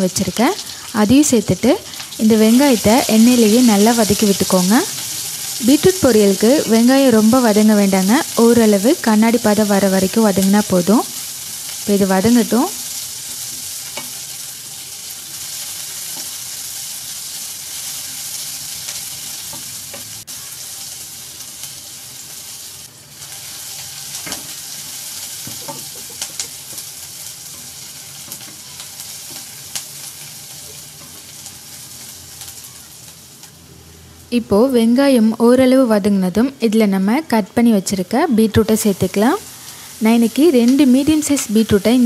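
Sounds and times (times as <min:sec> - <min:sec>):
onions sizzling in hot oil: 0:00.0 - 0:42.0.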